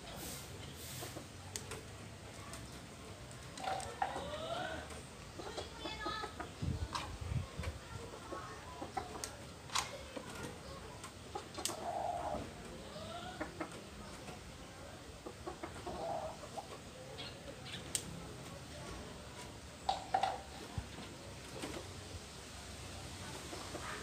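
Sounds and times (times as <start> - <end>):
chicken clucking: 0.0 - 1.8, 3.5 - 21.9, 23.2 - 24.0.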